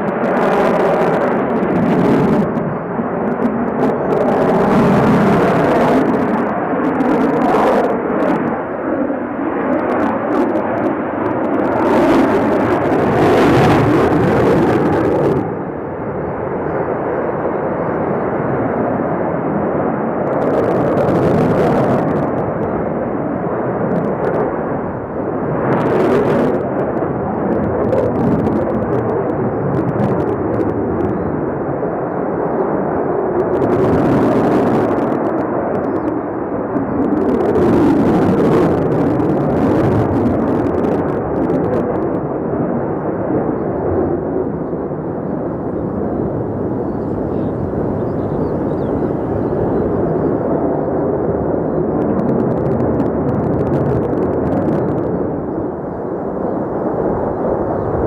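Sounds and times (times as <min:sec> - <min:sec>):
jet engine rumble overhead: 0:00.0 - 0:58.0.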